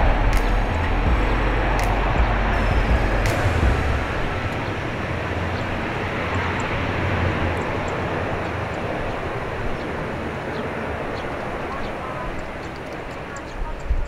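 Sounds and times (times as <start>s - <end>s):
airliner engine rush: 0.0s - 14.0s.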